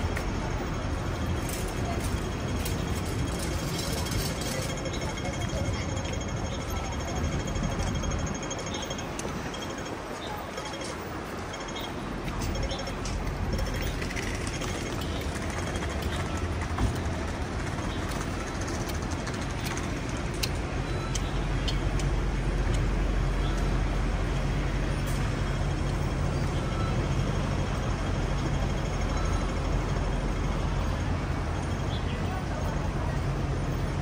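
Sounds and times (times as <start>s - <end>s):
city street traffic: 0.0s - 34.0s
vehicle engine rumbling: 0.0s - 34.0s.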